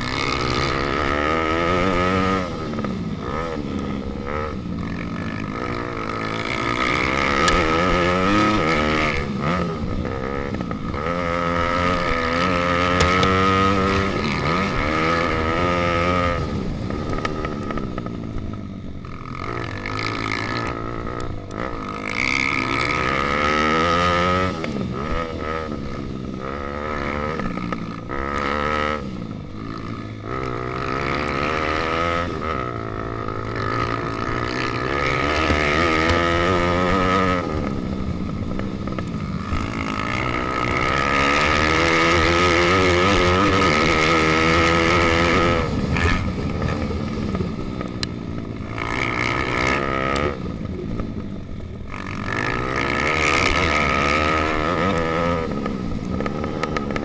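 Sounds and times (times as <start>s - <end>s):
motorbike engine revving: 0.0s - 57.0s.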